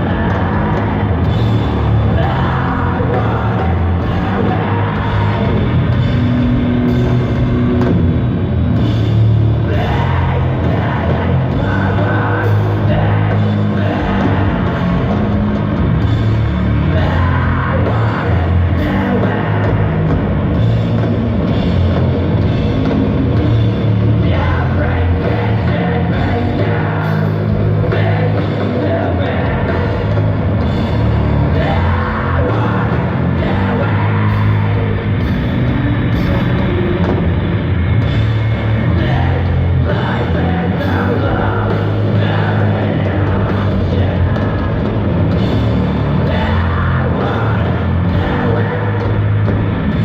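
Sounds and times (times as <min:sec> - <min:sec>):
doom metal band playing live: 0:00.0 - 0:50.0.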